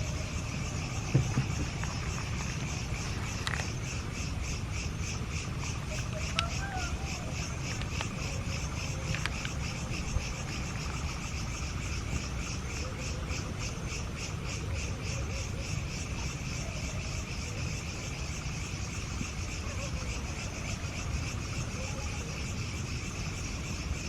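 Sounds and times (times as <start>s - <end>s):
constant low rumble: 0.0s - 24.0s
insects chirping: 0.0s - 24.0s.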